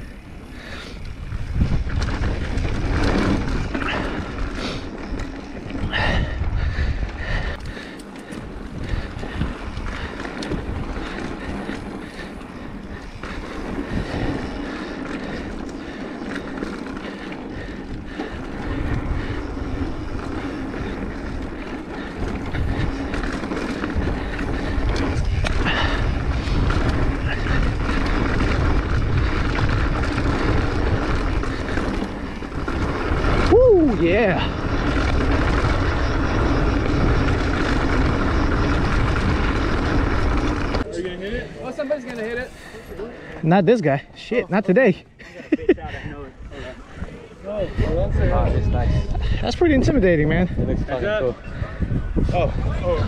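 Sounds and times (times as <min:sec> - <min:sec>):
wind buffeting microphone: 0:00.0 - 0:44.0, 0:45.6 - 0:53.0
bike rattling: 0:00.0 - 0:53.0
bike tyres on packed dirt: 0:00.0 - 0:53.0.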